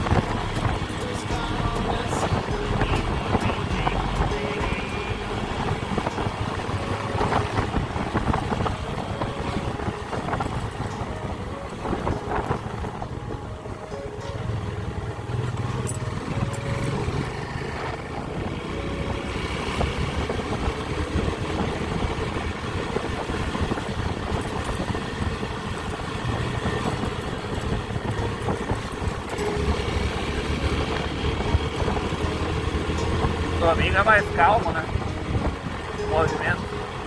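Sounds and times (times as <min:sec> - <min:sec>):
small motorcycle engine: 0:00.0 - 0:13.0, 0:14.4 - 0:37.0
road and wind noise: 0:00.0 - 0:37.0.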